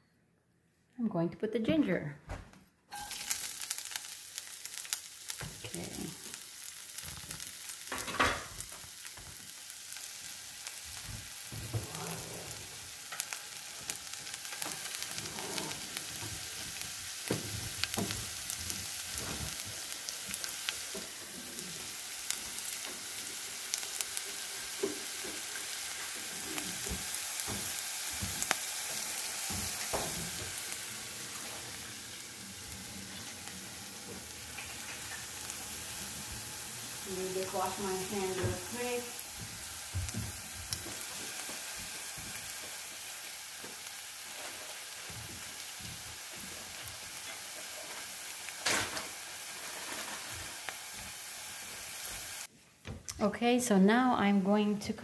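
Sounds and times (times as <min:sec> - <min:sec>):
ginger sizzling in hot oil: 0:02.9 - 0:52.5.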